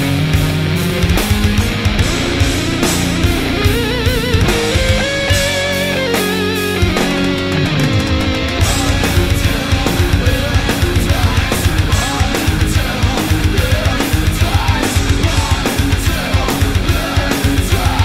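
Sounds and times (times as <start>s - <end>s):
heavy metal music: 0.0s - 18.0s.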